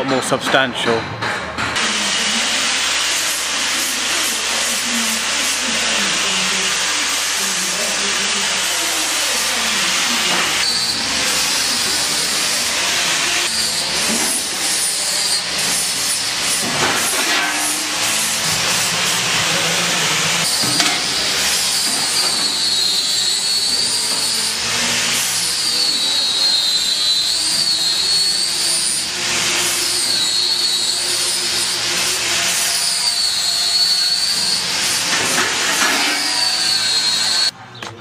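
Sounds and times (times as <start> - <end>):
machinery rushing with whine: 2.2 - 37.5.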